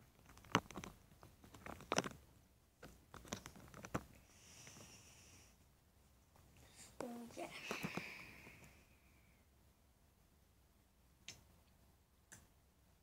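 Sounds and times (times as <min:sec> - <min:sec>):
soft hiss: 0:02.2 - 0:13.0.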